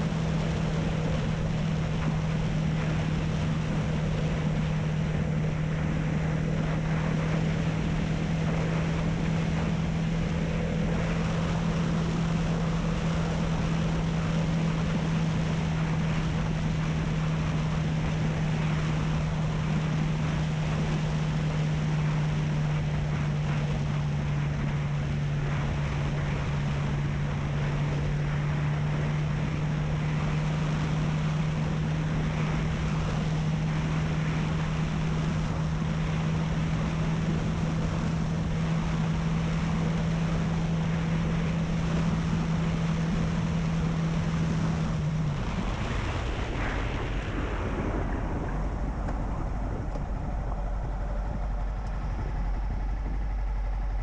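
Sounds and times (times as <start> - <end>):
motorcycle engine cruising: 0.0 - 54.0
road noise: 0.0 - 54.0
wind rush: 0.0 - 54.0.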